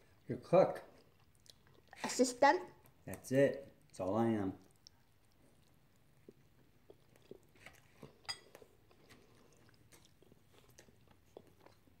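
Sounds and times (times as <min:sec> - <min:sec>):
faint close-up chewing: 0:00.0 - 0:12.0.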